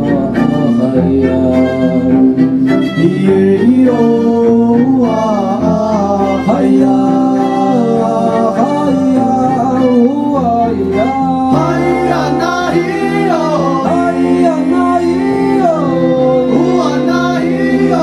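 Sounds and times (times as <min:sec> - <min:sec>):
cello: 0:00.0 - 0:18.0
double bass: 0:00.0 - 0:18.0
person singing: 0:00.0 - 0:18.0
violin: 0:00.0 - 0:18.0.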